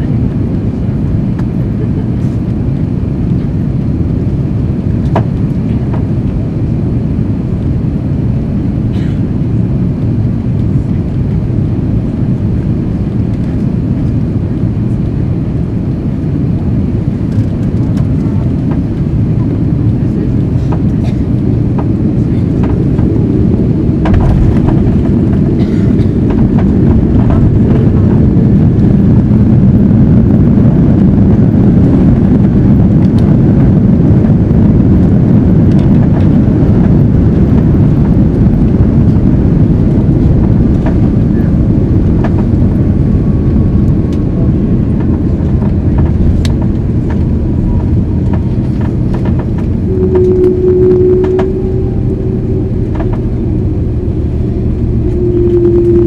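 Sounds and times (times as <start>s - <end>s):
aircraft engines and wheels rumbling: 0.0s - 56.0s
steady whine: 0.0s - 56.0s.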